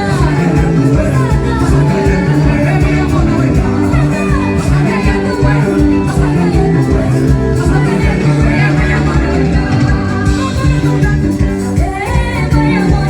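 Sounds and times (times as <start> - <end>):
live band music: 0.0 - 13.0
person singing: 0.0 - 13.0.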